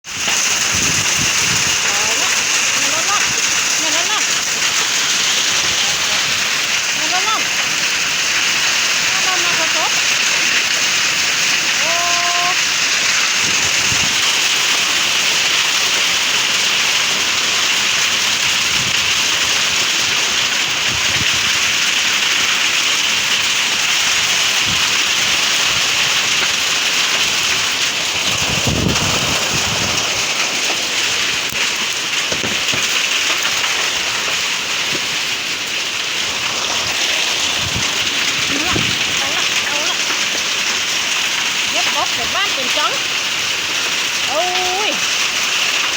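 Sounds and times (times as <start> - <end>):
hail and heavy rain pelting: 0.0 - 45.9.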